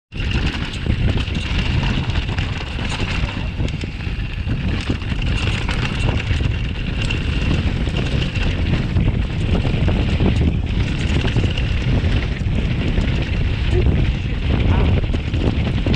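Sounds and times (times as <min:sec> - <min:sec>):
wind buffeting microphone: 0:00.1 - 0:15.9.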